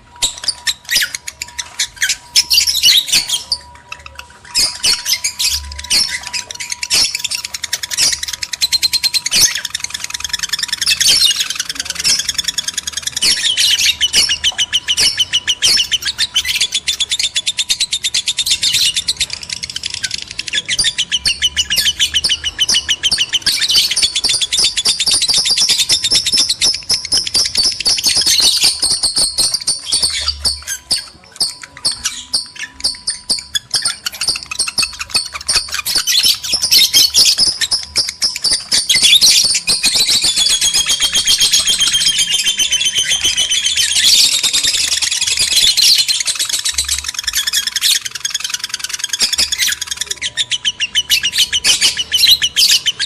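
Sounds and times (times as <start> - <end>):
lovebirds chattering: 0.0 - 53.0.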